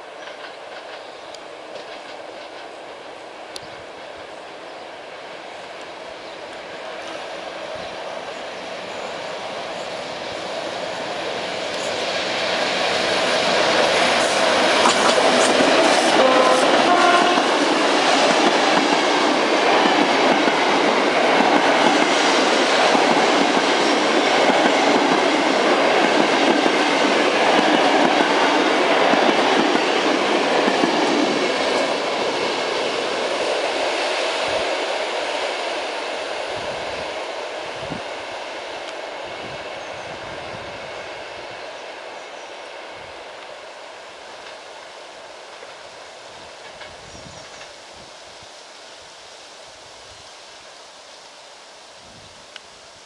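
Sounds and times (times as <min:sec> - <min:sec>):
train wheels rolling on rails: 0:00.0 - 0:53.0.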